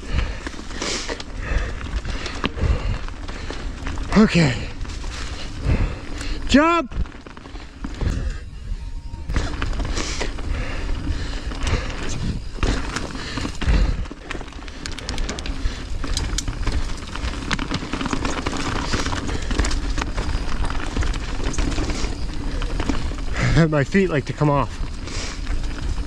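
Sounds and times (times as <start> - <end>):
bike clattering over bumps: 0.0 - 8.5, 9.3 - 26.0
tyres rumbling on dirt: 0.0 - 8.6, 9.3 - 26.0
wind noise: 1.4 - 26.0.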